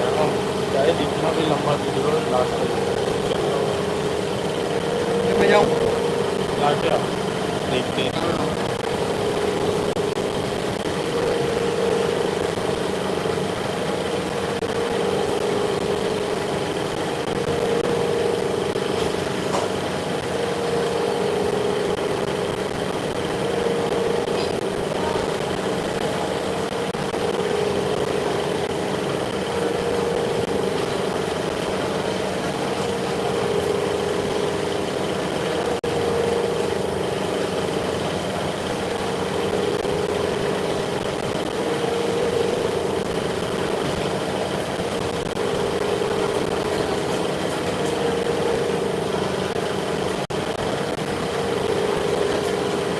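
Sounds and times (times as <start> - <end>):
workshop machine droning: 0.0 - 52.9.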